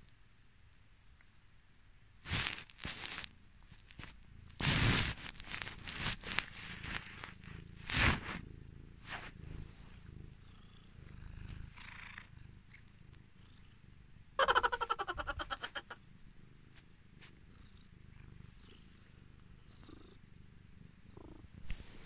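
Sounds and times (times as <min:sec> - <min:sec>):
cat purring: 0:02.2 - 0:14.4, 0:15.0 - 0:22.0.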